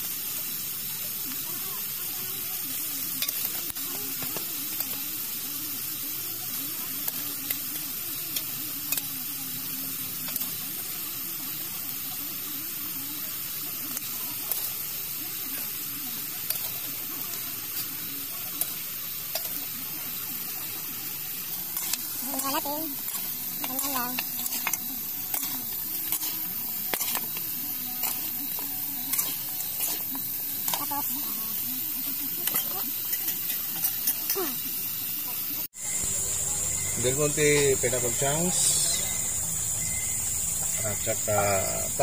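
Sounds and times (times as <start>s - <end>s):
meat sizzling in a wok: 0.0s - 42.0s.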